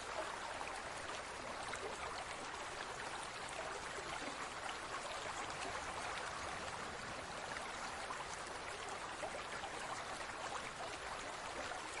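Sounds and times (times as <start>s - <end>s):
aquarium water trickling and bubbling: 0.0s - 12.0s.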